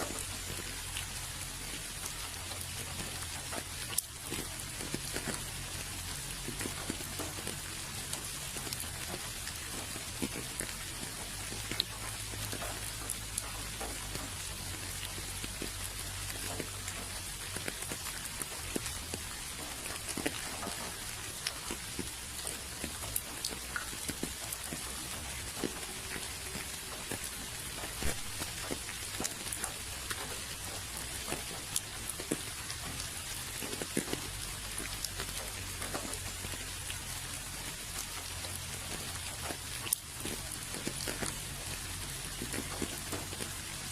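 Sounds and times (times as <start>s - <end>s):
raindrops tapping: 0.0s - 43.9s
steady rain falling: 0.0s - 43.9s.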